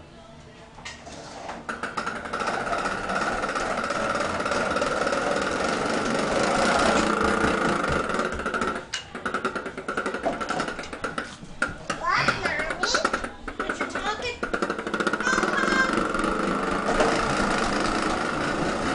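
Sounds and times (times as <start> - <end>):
motorised toy truck whirring: 0.9 - 18.9.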